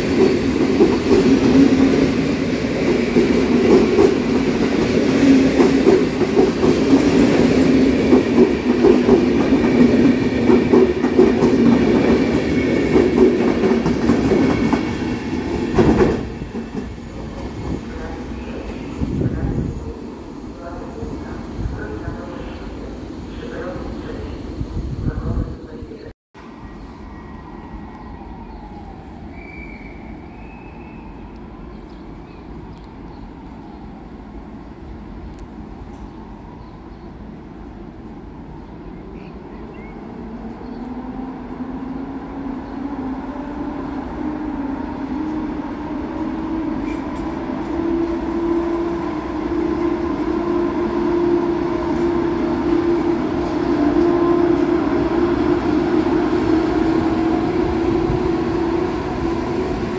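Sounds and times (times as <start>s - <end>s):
electric locomotive humming whine: 0.0s - 59.9s.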